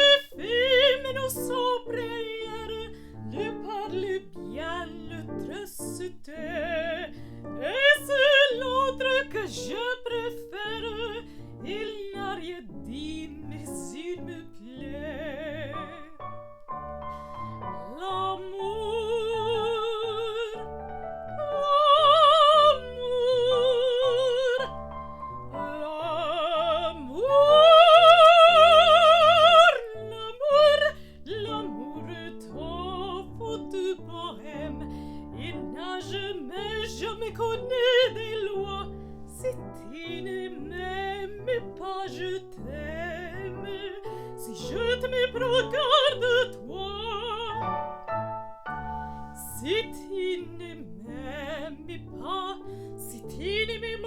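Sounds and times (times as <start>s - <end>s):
woman singing operatically: 0.0s - 16.4s, 17.6s - 24.9s, 25.5s - 54.0s
piano accompaniment: 0.0s - 54.0s.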